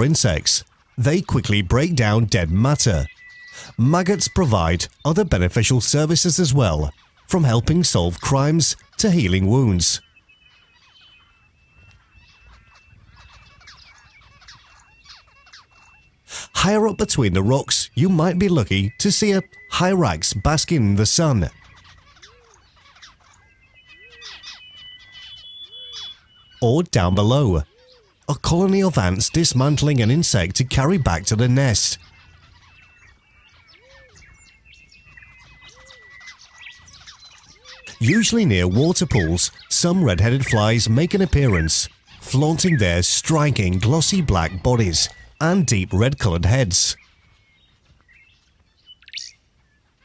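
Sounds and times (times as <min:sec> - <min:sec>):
faint bird chirps: 0:00.0 - 0:50.0.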